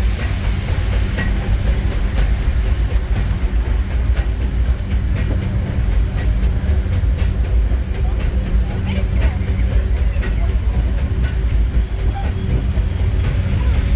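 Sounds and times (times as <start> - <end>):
train coach rumbling on track: 0.0 - 13.9.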